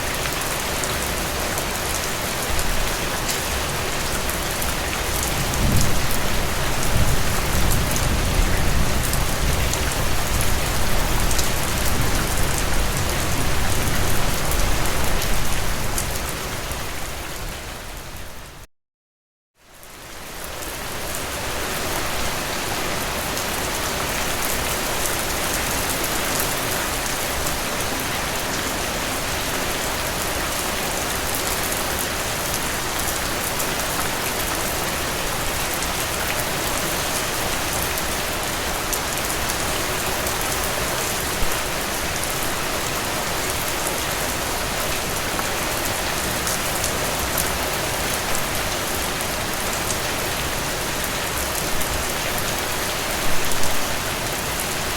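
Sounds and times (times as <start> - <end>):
steady rain falling: 0.0 - 18.7, 19.7 - 54.9.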